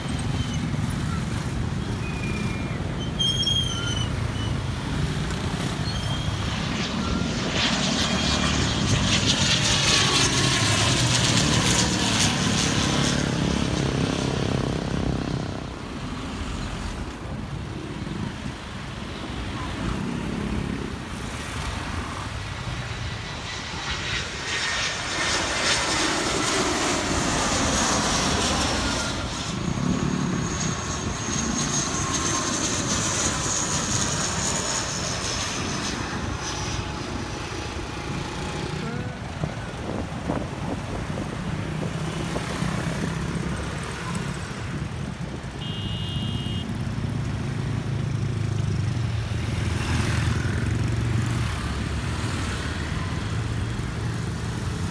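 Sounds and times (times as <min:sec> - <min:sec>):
high engine whine: 0:00.0 - 0:54.8
airliner engines rushing overhead: 0:00.0 - 0:54.9.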